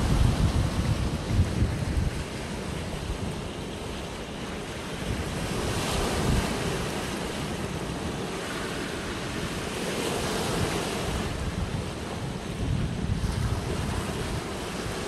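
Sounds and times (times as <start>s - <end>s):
wind buffeting microphone: 0.0s - 8.5s, 9.1s - 15.0s
small sea waves breaking: 0.0s - 15.0s.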